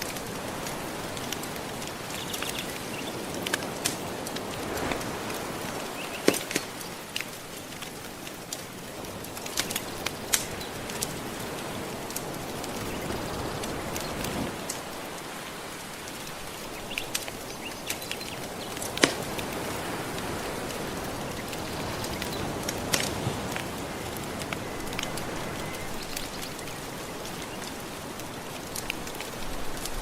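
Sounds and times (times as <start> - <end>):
gentle ocean waves: 0.0 - 30.0
wood fire crackling: 0.0 - 30.0.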